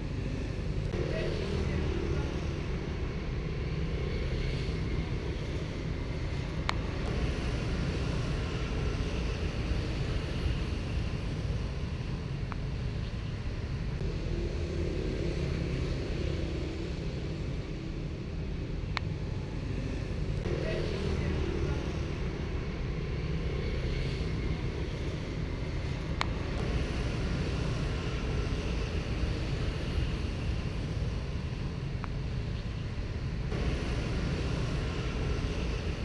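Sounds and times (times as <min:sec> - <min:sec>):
distant road traffic rumble: 0:00.0 - 0:36.0.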